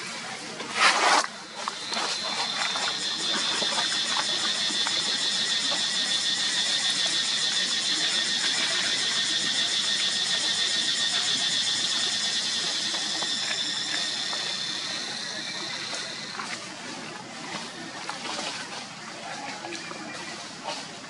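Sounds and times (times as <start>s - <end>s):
cicadas droning: 1.0s - 21.0s.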